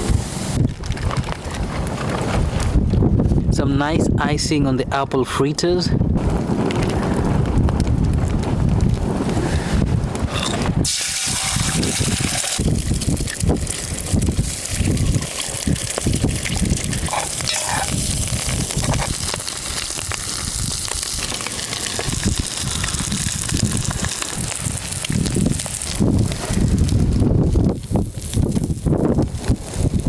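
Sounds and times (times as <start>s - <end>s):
strong wind buffeting microphone: 0.0s - 5.0s, 5.8s - 30.0s.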